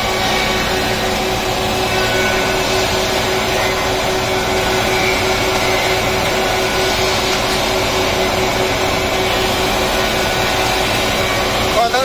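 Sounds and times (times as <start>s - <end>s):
wood planer running: 0.0s - 12.0s.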